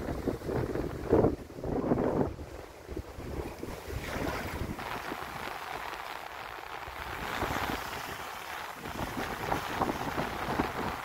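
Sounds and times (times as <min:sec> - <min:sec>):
sea water rushing and splashing: 0:00.0 - 0:11.0
wind buffeting microphone: 0:00.0 - 0:11.0.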